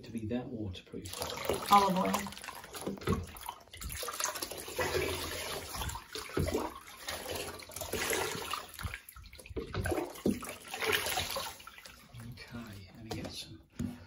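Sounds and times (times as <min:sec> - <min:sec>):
water splashing and trickling: 0:00.9 - 0:13.3.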